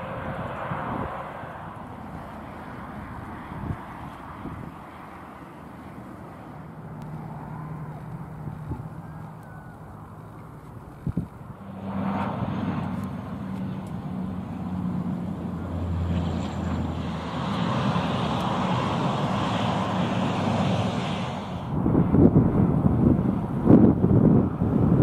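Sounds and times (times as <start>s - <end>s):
light aircraft engine humming: 0.0s - 25.0s
turboprop airliner passing low: 0.0s - 25.0s.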